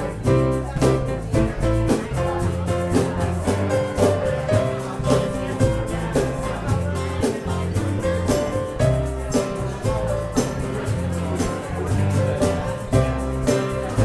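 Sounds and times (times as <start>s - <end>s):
bass line: 0.0s - 14.0s
guitar: 0.0s - 14.0s
steady beat: 0.0s - 14.0s.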